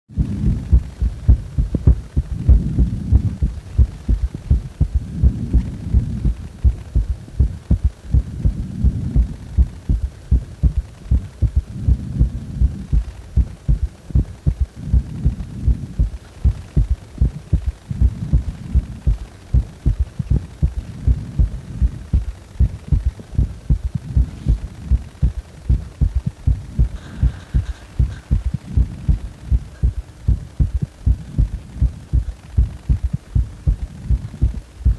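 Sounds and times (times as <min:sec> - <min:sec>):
heartbeat thumps: 0:00.1 - 0:34.9.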